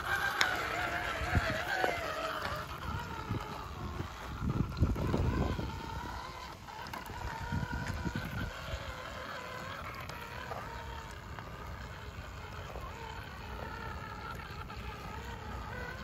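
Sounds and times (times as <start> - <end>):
wind buffeting microphone: 0.0 - 13.8
electric motor and gears whining: 0.0 - 16.0.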